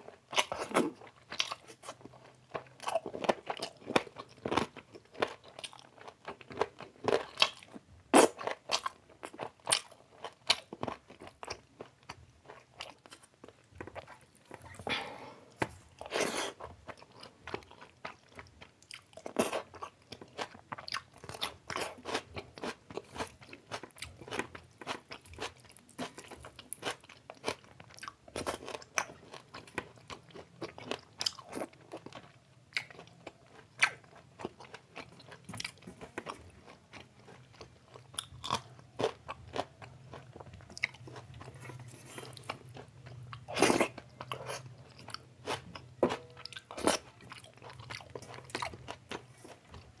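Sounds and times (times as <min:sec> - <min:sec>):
wet chewing and smacking: 0:00.0 - 0:14.9, 0:15.5 - 0:50.0.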